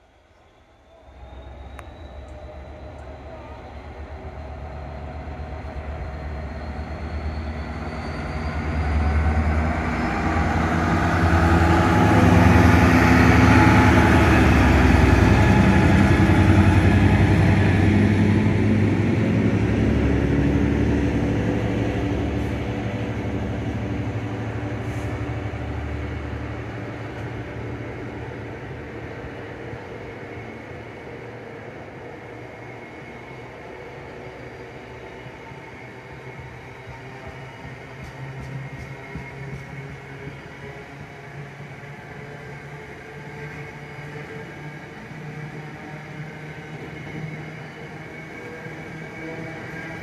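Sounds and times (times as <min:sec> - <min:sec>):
diesel locomotive engine: 0:00.0 - 0:50.0.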